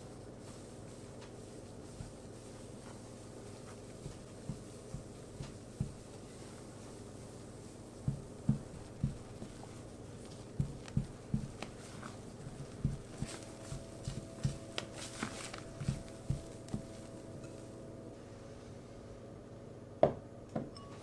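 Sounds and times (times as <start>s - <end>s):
spatula folding thick batter: 0.0s - 17.6s.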